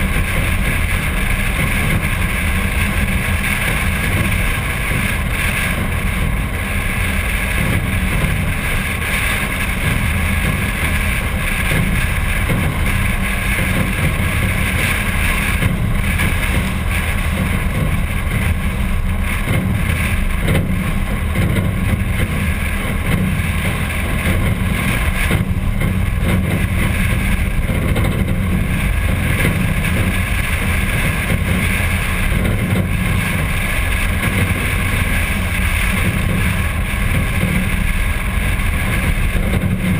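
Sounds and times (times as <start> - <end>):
car engine low rumble: 0.0 - 39.9
wind buffeting microphone: 0.0 - 39.9.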